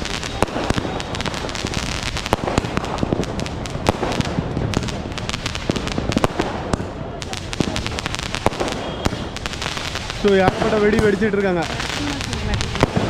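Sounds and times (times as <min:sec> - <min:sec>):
distant bangs rumbling: 0:00.0 - 0:13.0
firecrackers cracking: 0:00.0 - 0:13.0.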